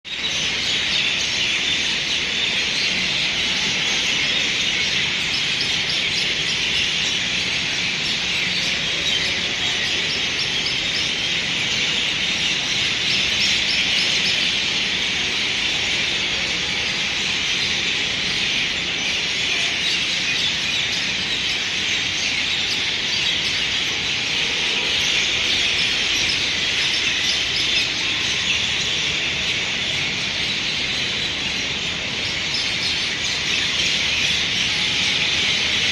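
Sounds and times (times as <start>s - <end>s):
chorus of birds chirping: 0.1s - 35.9s.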